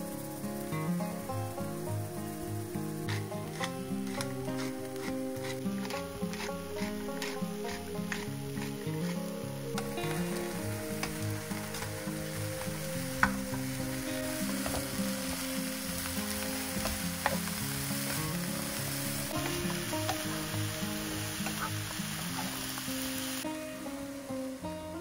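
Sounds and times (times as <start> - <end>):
food sizzling in frying pan: 0.0 - 25.0
soft background music: 0.0 - 25.0.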